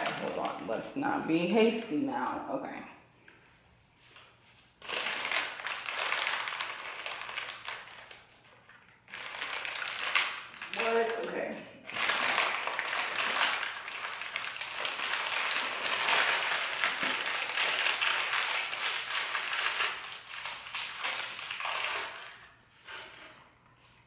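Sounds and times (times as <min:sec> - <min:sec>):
newspaper crinkling and rustling: 0:04.0 - 0:23.4.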